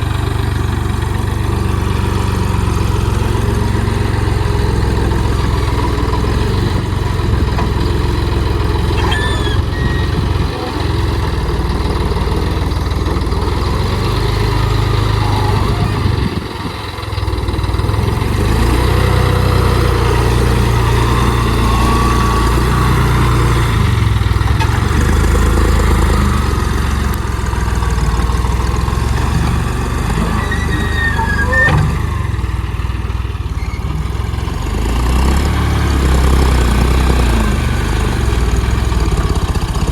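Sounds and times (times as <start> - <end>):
diesel engine low drone: 0.0 - 39.9.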